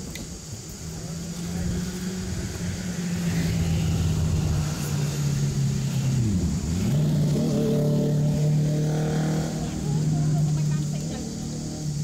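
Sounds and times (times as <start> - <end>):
vehicle engine running: 0.8 - 12.0.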